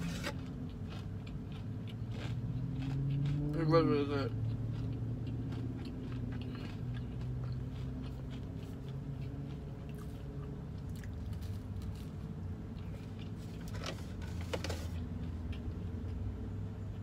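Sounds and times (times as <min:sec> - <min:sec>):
chewing and crunching: 0:00.0 - 0:17.0
steady low hum: 0:00.0 - 0:17.0.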